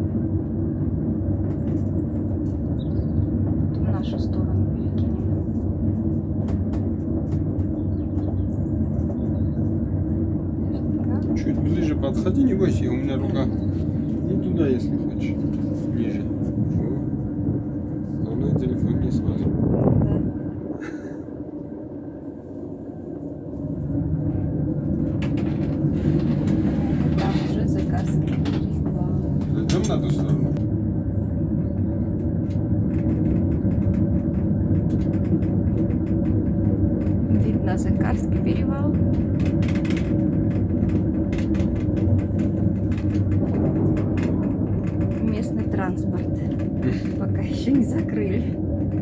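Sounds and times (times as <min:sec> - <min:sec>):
cable car cabin rumble: 0:00.0 - 0:49.0.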